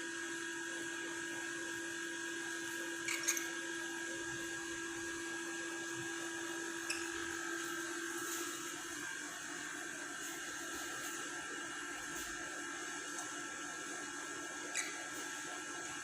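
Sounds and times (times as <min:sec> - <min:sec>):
motor hum with whine: 0:00.0 - 0:16.0.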